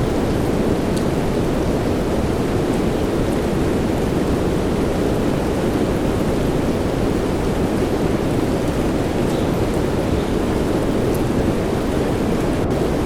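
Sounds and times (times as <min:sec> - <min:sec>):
soft rain: 0:00.0 - 0:13.0
white noise: 0:00.0 - 0:13.0.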